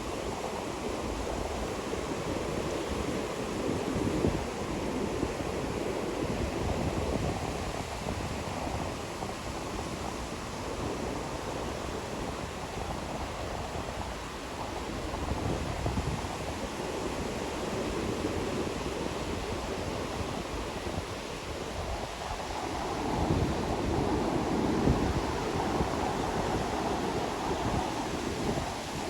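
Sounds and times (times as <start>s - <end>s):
ocean waves breaking on beach: 0.0s - 29.0s
wind noise on microphone: 0.0s - 29.0s.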